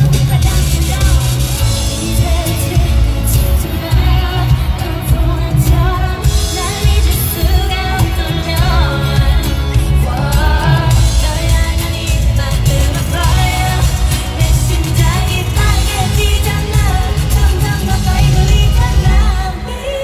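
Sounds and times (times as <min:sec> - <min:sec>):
pop backing track with heavy bass: 0:00.0 - 0:20.0
women singing: 0:00.0 - 0:20.0.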